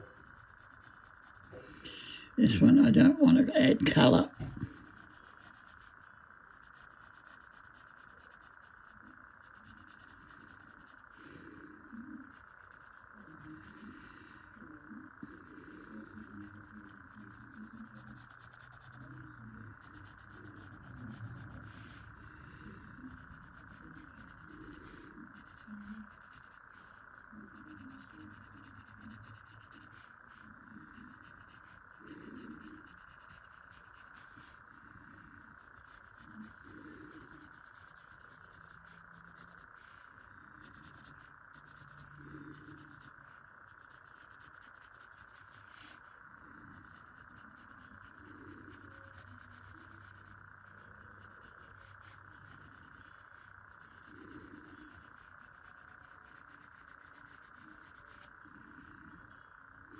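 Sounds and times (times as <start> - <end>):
pencil shading on paper: 0.0 - 59.9.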